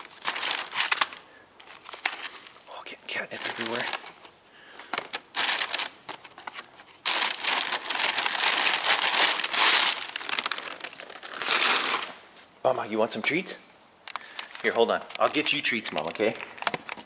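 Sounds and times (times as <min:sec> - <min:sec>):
plastic packaging crinkling: 0:00.0 - 0:12.4, 0:14.2 - 0:17.0.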